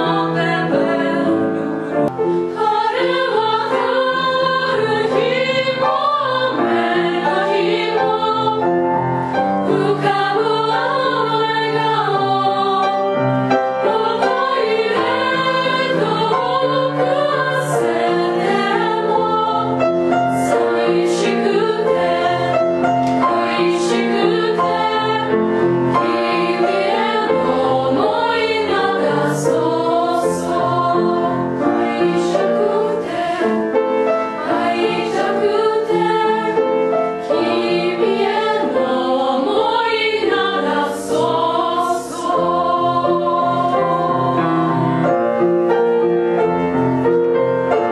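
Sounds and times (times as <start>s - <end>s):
girls' choir singing: 0.0s - 46.1s.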